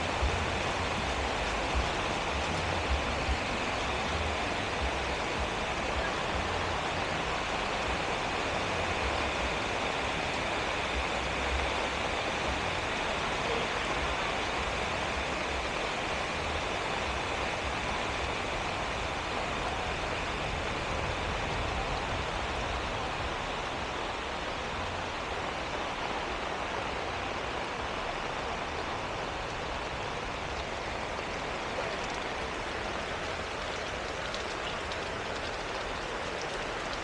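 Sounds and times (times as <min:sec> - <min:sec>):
heavy rain falling: 0:00.0 - 0:37.0.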